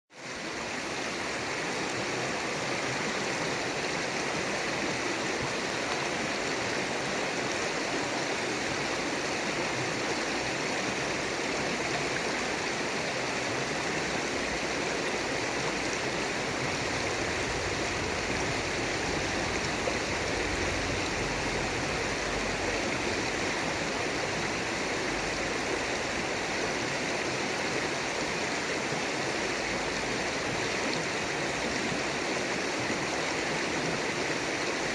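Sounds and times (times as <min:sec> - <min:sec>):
river water flowing: 0:00.1 - 0:34.9.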